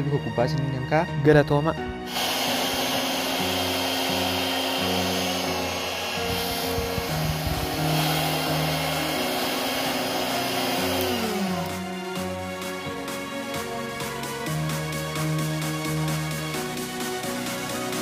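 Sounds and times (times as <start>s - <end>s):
electronic background music: 0.0s - 18.0s
electric motor fan rushing air: 2.0s - 18.0s.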